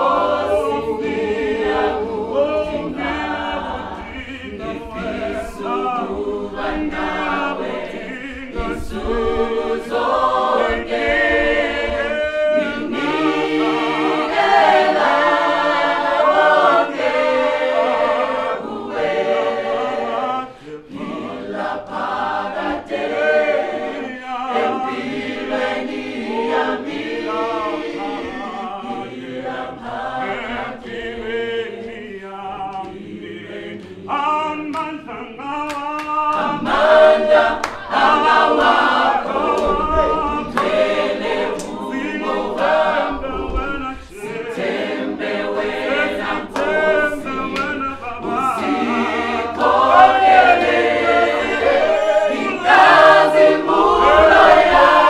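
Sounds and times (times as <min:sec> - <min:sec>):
mixed choir singing a cappella: 0:00.0 - 0:55.0.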